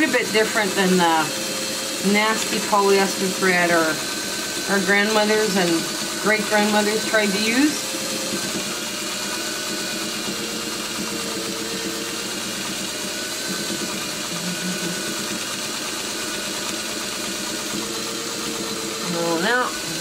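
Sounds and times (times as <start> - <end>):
sewing machine running: 0.0 - 20.0.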